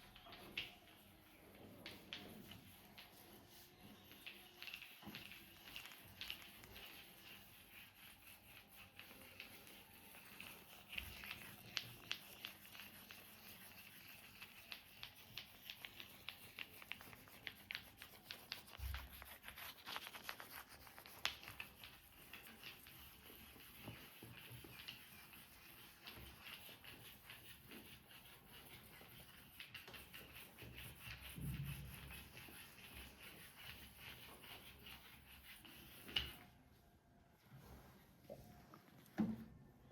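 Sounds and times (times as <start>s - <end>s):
hands rubbing skin: 0.1s - 36.4s.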